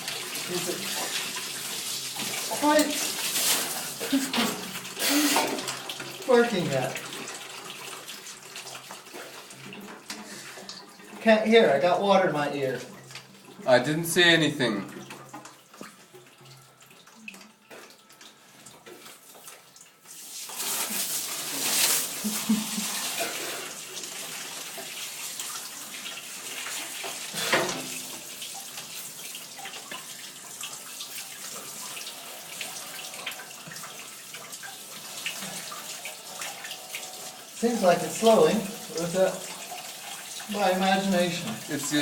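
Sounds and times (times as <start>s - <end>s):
water rushing from pipe: 0.0s - 42.0s.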